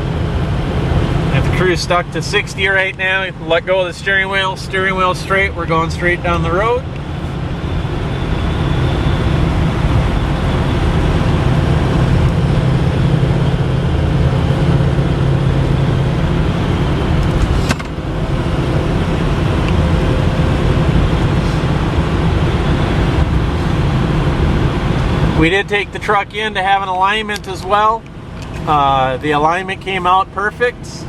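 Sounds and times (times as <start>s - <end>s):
tyre and road noise: 0.0s - 30.7s
truck engine drone: 0.0s - 31.0s.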